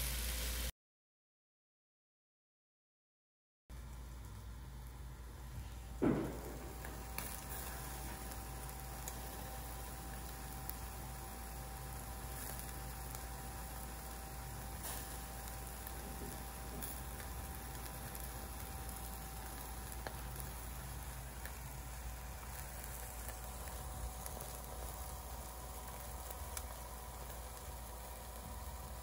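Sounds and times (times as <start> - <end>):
grill fan humming: 0.0 - 0.7, 3.7 - 29.0
meat sizzling over charcoal: 0.0 - 0.7, 3.8 - 29.0
sharp pops from grill: 5.6 - 29.0.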